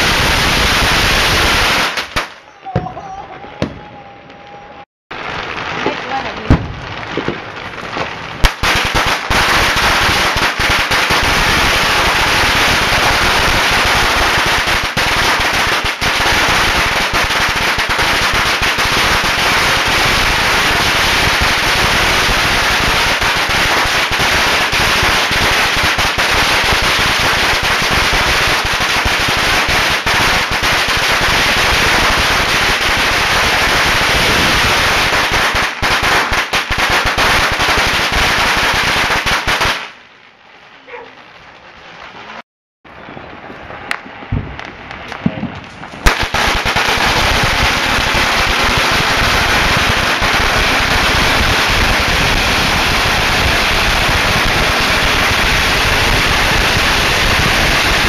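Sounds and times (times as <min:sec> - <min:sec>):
firecrackers exploding: 0:00.0 - 0:04.0, 0:05.1 - 0:58.0.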